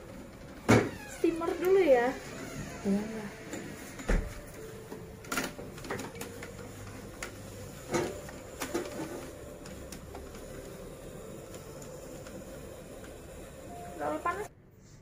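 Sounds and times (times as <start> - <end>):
facial steamer hum and hiss: 0.0 - 14.5.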